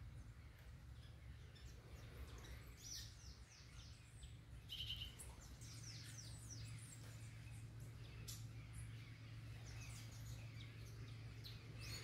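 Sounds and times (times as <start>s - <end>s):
steady low hum: 0.0s - 12.0s
high bird chirps: 0.5s - 12.0s.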